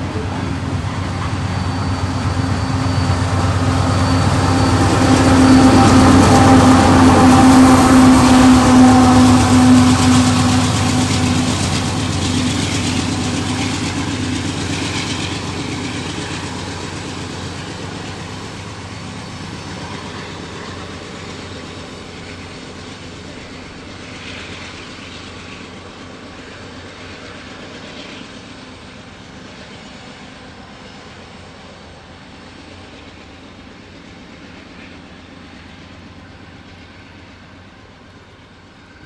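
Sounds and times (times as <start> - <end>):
diesel locomotive engine hum: 0.0 - 39.0
train wheel noise: 0.0 - 39.0.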